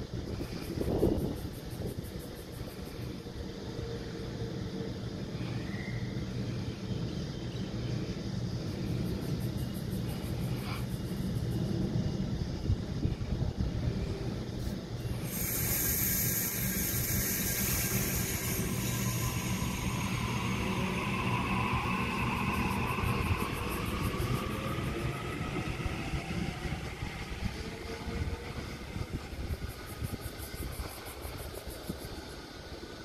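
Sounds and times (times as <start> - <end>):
train wheels rumbling on rails: 0.0 - 33.0
electric train motors whining: 0.7 - 33.0.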